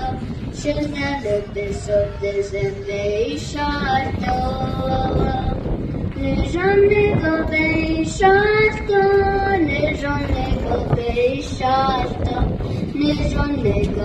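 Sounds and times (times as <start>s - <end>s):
girl singing into a microphone: 0.0s - 14.0s.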